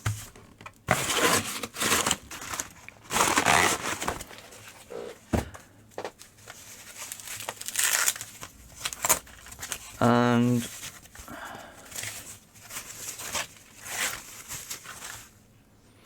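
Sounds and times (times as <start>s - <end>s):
crinkling packaging rustling: 0.0s - 5.3s, 5.9s - 15.4s.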